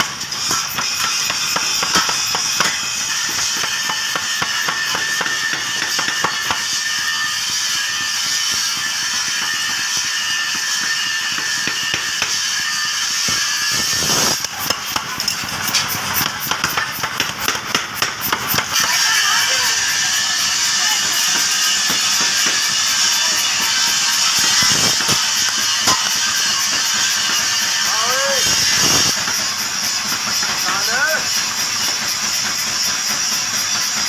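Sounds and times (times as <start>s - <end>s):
power hammer striking hot steel: 0.0s - 34.0s.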